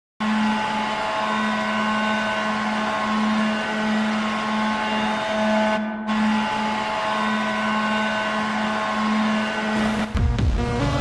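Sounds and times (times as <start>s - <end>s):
goal horn blast: 0.2s - 11.0s.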